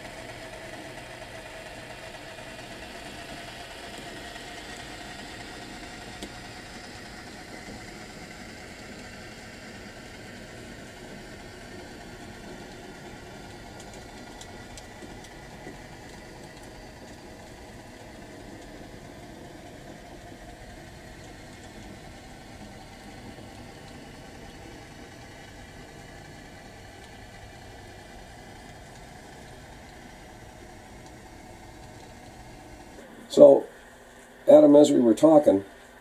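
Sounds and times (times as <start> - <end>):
model train humming: 0.0 - 36.0.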